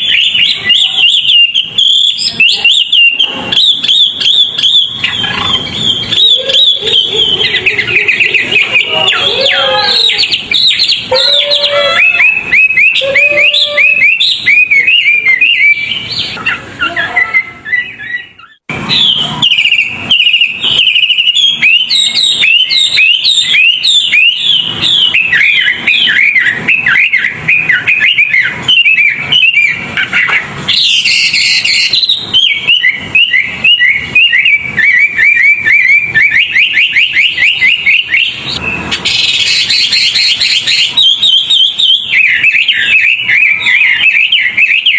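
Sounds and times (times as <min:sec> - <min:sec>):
songbird chirps and trills: 0:00.0 - 0:44.9.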